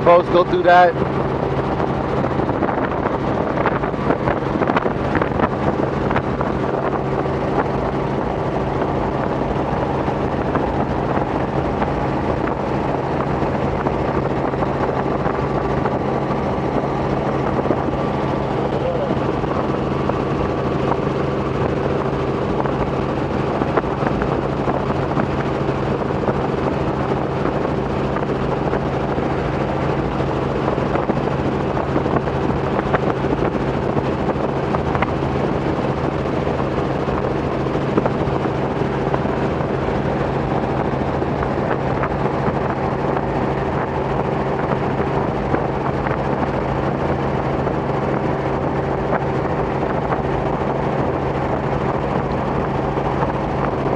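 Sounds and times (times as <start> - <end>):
helicopter droning in flight: 0.0 - 53.9.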